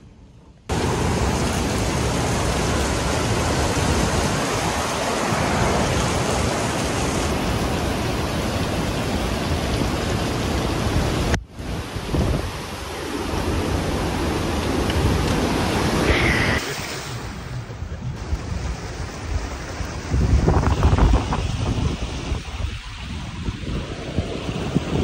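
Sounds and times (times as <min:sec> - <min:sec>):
heavy rain: 0:00.7 - 0:25.0
strong wind: 0:00.7 - 0:25.0.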